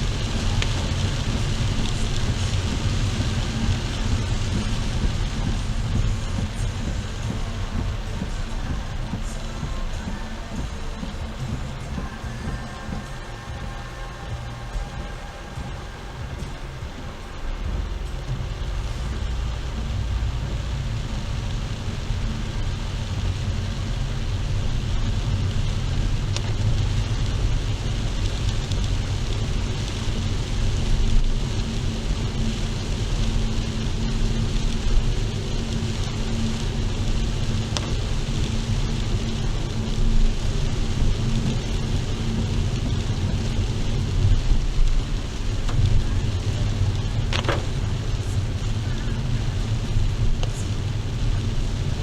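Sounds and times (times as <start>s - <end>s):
heavy rain on a car: 0.0s - 52.0s
road and engine rumble: 0.0s - 52.0s.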